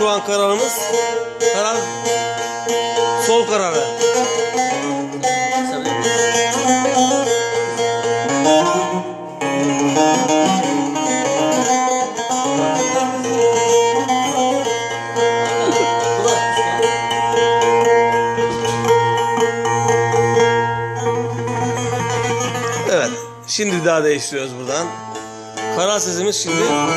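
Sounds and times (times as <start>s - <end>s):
plucked lute melody with drone: 0.0s - 26.9s.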